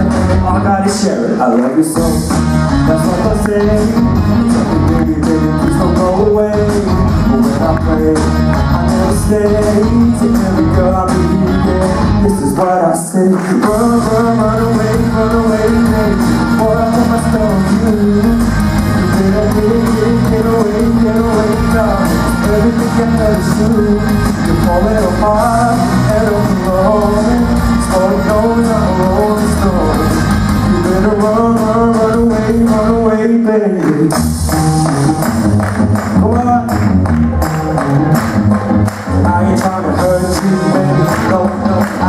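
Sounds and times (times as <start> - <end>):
man singing into microphone: 0.0 - 35.1, 36.1 - 37.0, 39.0 - 42.0
music through pa: 0.0 - 42.0.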